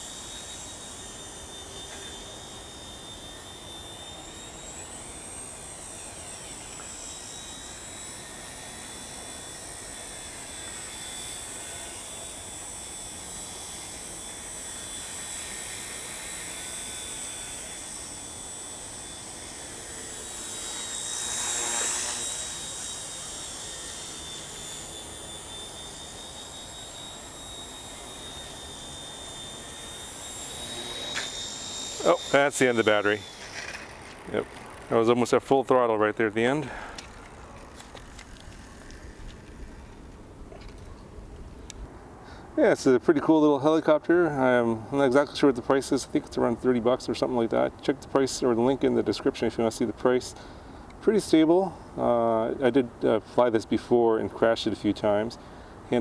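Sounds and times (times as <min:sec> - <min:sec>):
rc helicopter motor whine: 0:00.0 - 0:56.0.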